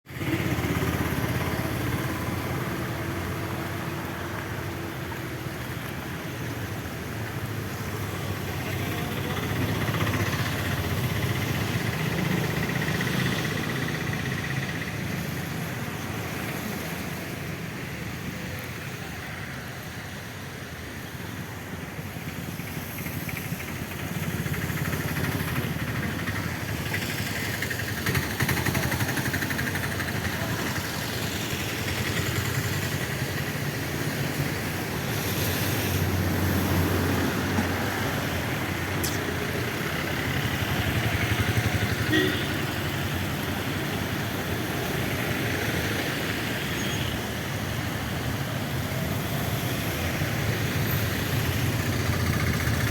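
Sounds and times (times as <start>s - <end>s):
vehicle engines running and idling: 0.0s - 52.9s.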